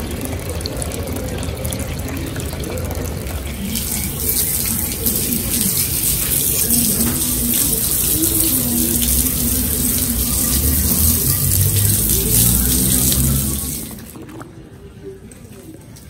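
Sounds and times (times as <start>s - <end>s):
water running from a tap: 0.0s - 14.4s.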